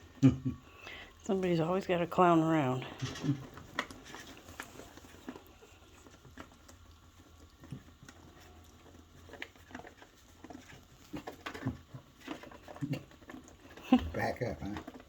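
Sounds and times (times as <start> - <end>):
puppies nibbling food: 2.9 - 15.0.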